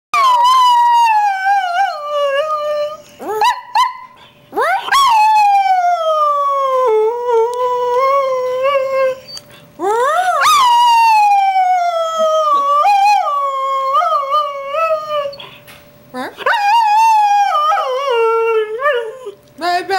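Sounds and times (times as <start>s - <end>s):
dog howling: 0.2s - 3.9s, 4.6s - 15.5s, 16.4s - 19.4s.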